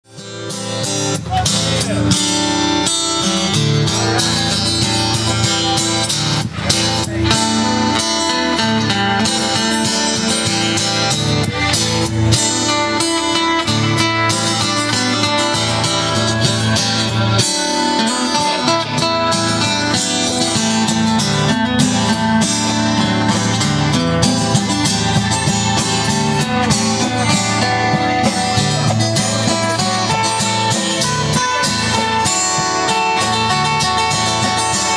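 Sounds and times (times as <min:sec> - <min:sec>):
guitars strummed and plucked: 0:00.0 - 0:34.9
drums: 0:00.1 - 0:34.9.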